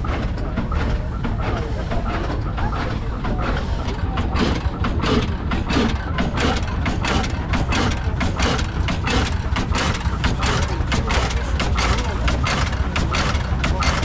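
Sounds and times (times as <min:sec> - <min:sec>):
oil engine running: 0:00.0 - 0:14.0
sharp mechanical clicks: 0:00.0 - 0:14.0.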